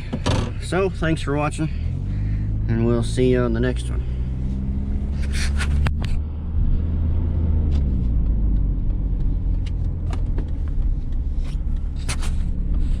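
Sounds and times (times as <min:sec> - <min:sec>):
pickup engine and road rumble: 0:00.0 - 0:13.0.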